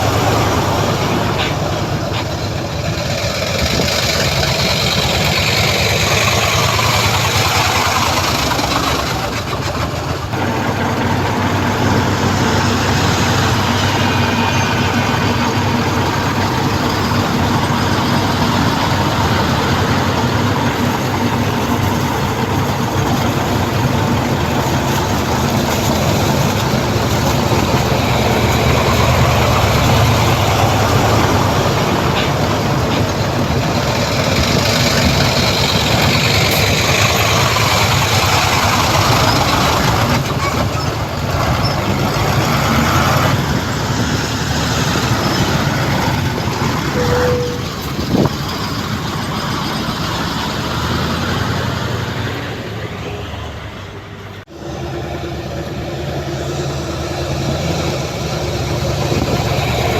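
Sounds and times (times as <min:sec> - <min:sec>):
heavy machinery diesel engines: 0:00.0 - 0:59.9.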